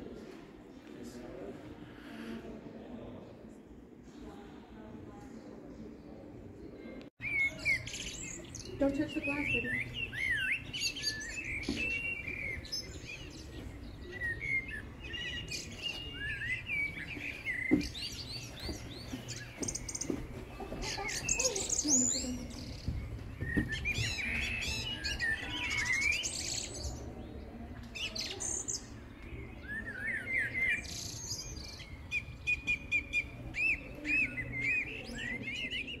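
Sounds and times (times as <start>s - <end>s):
small birds chirping: 5.1s - 36.0s.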